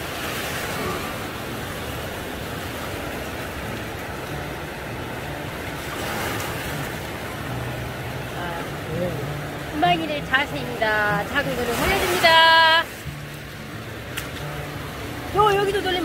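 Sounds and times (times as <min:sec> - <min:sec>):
surf washing on pebble shore: 0:00.0 - 0:16.0.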